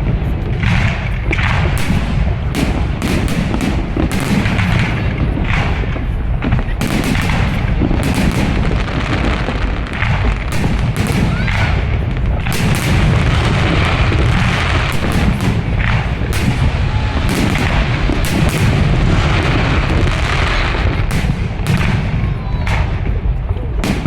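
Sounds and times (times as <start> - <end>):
low rumble of booms: 0.0 - 24.0
fireworks shells bursting: 0.3 - 23.1.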